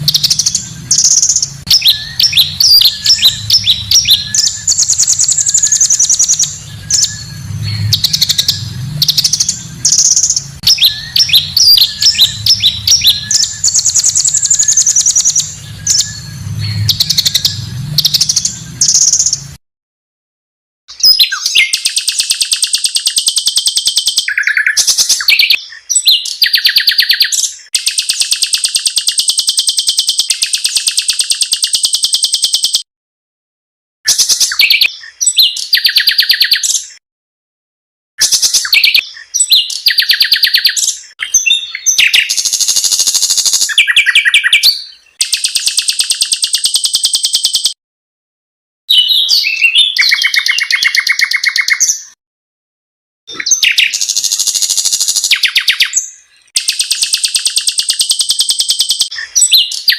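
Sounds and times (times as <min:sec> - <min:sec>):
songbirds singing harsh trills: 0:00.0 - 0:19.6, 0:20.9 - 0:32.9, 0:34.1 - 0:37.0, 0:38.2 - 0:47.8, 0:48.9 - 0:52.2, 0:53.3 - 0:59.9.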